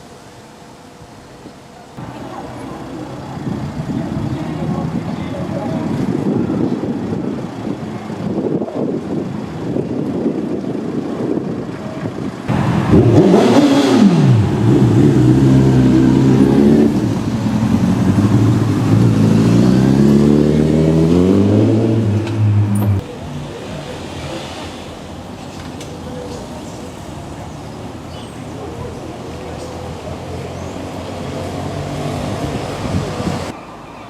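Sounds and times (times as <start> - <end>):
street traffic noise: 0.0 - 34.0
motor vehicle engine accelerating: 2.0 - 33.6.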